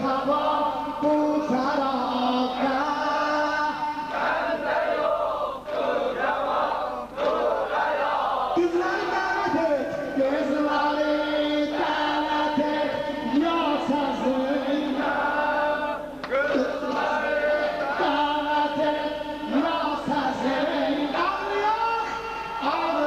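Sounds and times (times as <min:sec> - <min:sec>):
men chanting together: 0:00.0 - 0:23.0.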